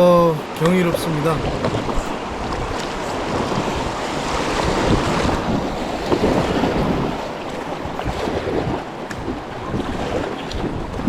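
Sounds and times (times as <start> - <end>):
river water rushing and splashing: 0.0 - 11.0
wind buffeting microphone: 1.4 - 11.0.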